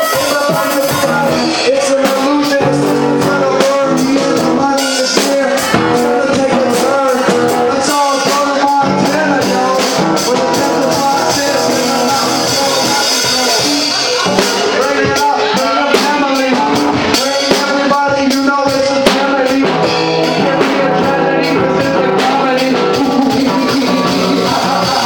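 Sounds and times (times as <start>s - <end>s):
drum kit: 0.0s - 25.0s
guitar: 0.0s - 25.0s
live band playing loud music: 0.0s - 25.0s
person singing: 0.0s - 25.0s.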